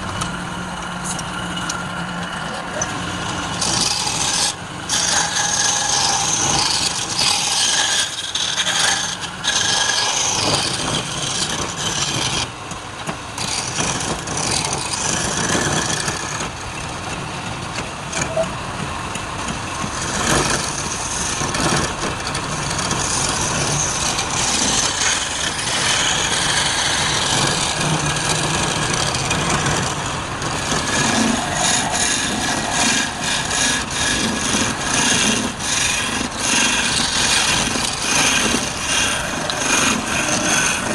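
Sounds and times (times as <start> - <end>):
tool scraping spinning wood: 0.0 - 40.9.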